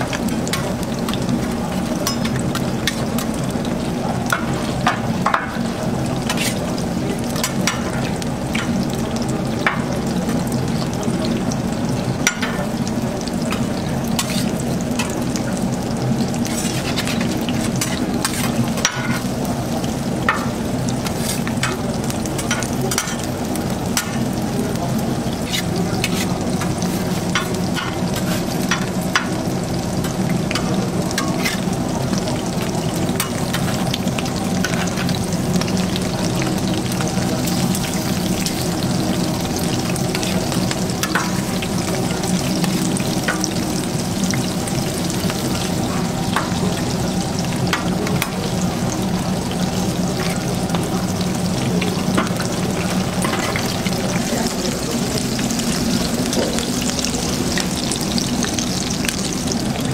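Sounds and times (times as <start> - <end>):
fritters sizzling in oil: 0.0 - 59.9.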